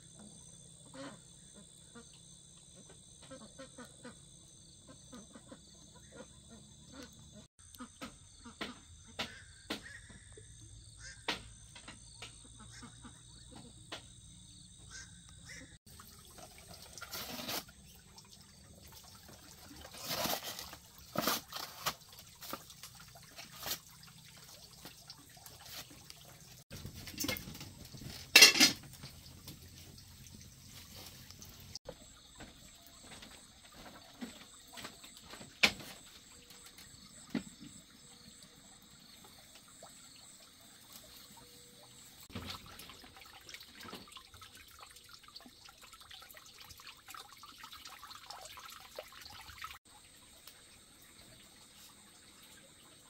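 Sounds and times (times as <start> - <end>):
water trickling and lapping: 0.1 - 53.0.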